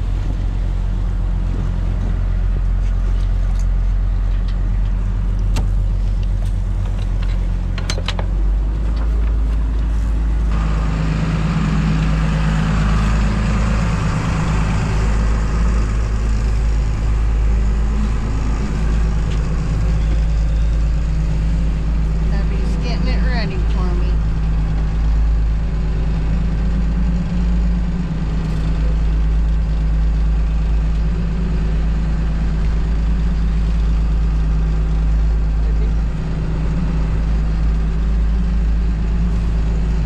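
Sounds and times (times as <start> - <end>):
boat engine droning: 0.0 - 40.0.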